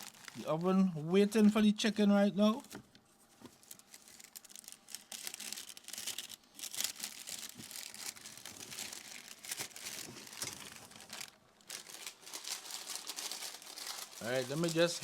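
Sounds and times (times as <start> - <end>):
baking paper crinkling: 0.0 - 1.5, 2.5 - 15.0.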